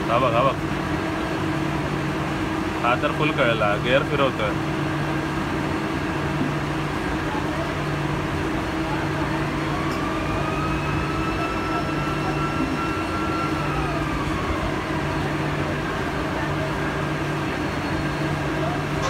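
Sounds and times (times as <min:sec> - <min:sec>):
industrial machinery drone: 0:00.0 - 0:19.0.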